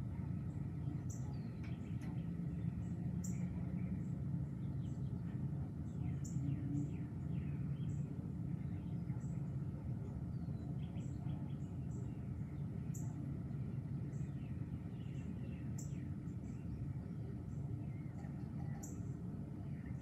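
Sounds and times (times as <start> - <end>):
low background rumble: 0.0 - 20.0
birds chirping: 0.2 - 20.0.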